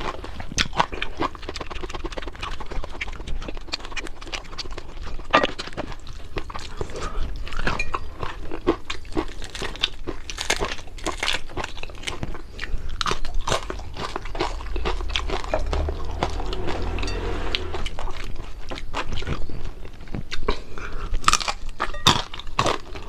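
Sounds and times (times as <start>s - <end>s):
person chewing crispy food: 0.0s - 23.0s.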